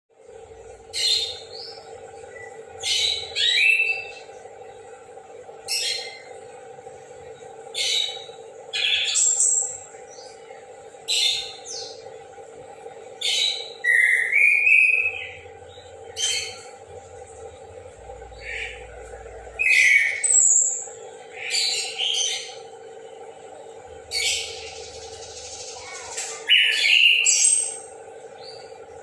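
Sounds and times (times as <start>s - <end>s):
steady background hum: 0.1s - 29.0s.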